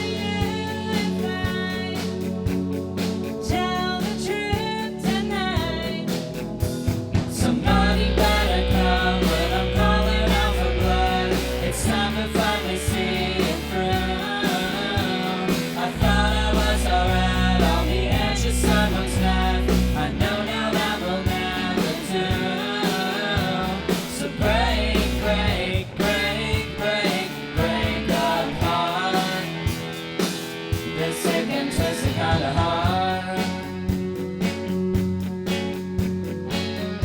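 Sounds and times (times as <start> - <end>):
rock band playing live: 0.0 - 37.0.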